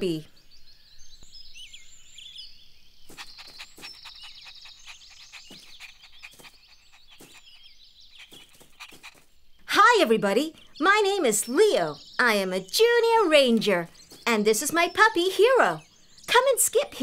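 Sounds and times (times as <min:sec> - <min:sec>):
small birds chirping and trilling: 0:00.0 - 0:17.0.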